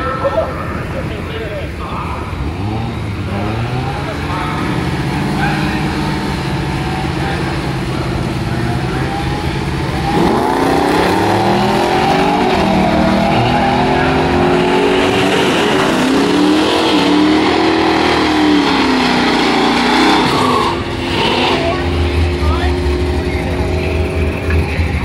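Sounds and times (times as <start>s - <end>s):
race car engines idling: 0.0s - 25.0s
race car engines revving hard: 0.0s - 25.0s.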